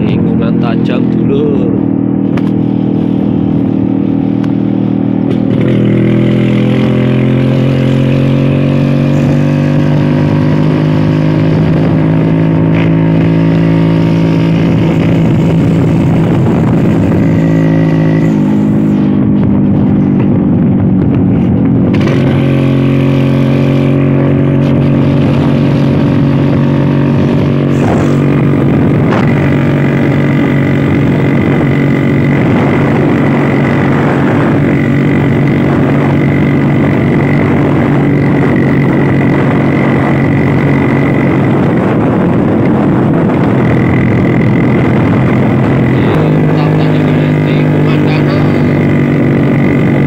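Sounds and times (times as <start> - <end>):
scooter engine running: 0.0 - 50.0.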